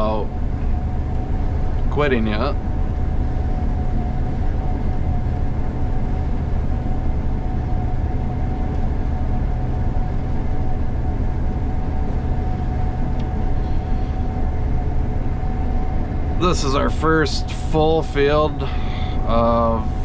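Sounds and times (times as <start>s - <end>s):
combine harvester droning: 0.0s - 20.0s.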